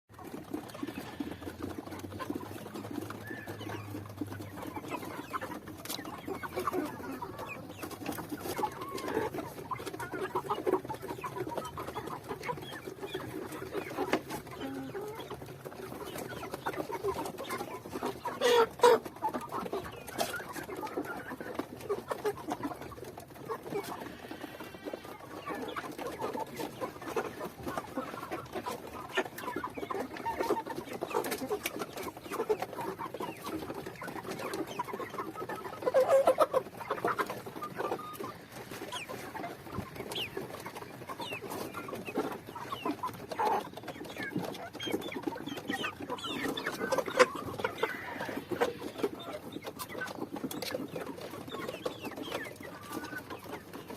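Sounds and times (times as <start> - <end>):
chickens clucking: 0.1 - 53.9.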